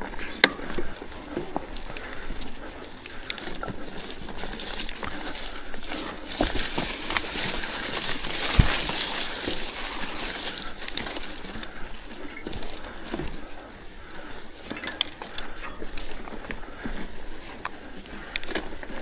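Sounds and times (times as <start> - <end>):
bike rattles and clicks: 0.0 - 19.0
bike tyre noise on dirt: 0.0 - 19.0.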